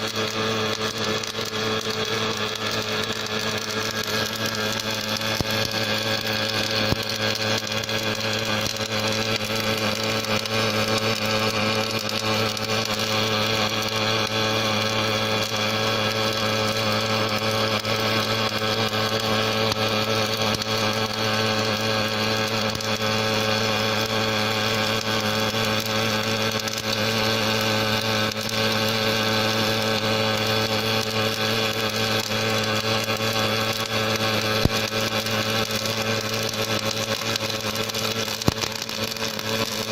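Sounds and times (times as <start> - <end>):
welding arc crackle: 0.0 - 39.9.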